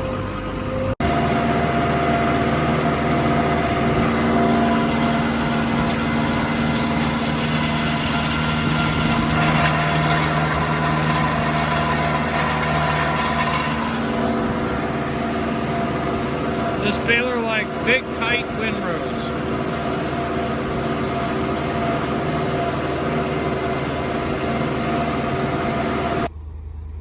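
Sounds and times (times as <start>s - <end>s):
deep steady hum: 0.0s - 27.0s
tractor engine running: 0.0s - 27.0s.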